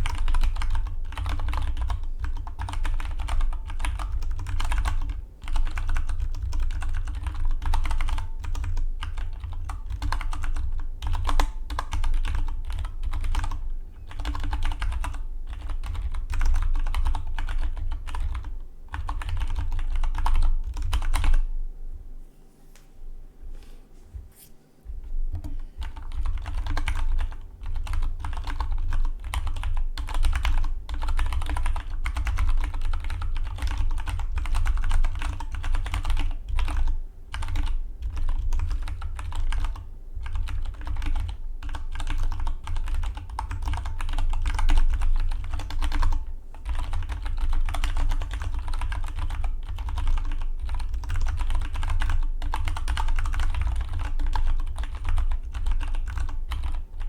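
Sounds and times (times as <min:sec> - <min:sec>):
fast mechanical keyboard typing: 0:00.0 - 0:21.4, 0:25.4 - 0:57.0.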